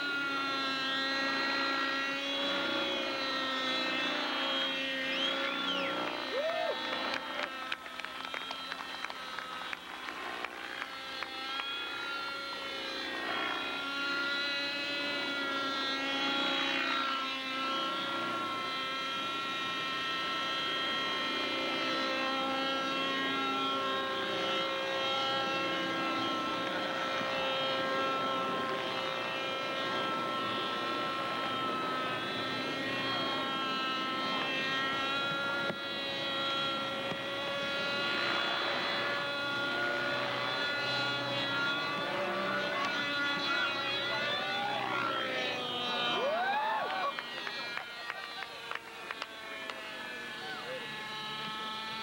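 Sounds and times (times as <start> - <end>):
model helicopter engine whine: 0.0 - 52.0.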